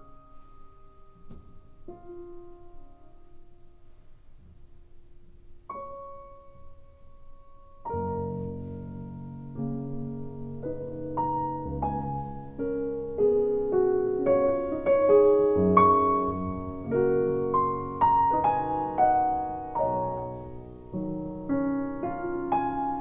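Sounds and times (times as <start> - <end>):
gentle solo piano: 0.0 - 23.0.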